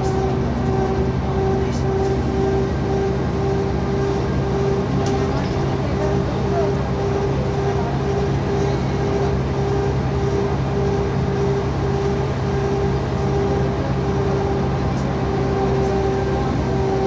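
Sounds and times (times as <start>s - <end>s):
diesel bus engine running: 0.0s - 17.0s
high engine whine: 0.0s - 17.0s.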